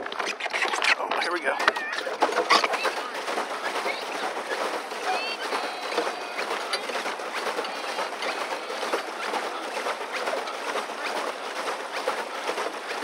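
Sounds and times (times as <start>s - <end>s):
paddle wheel churning water: 0.0s - 13.0s.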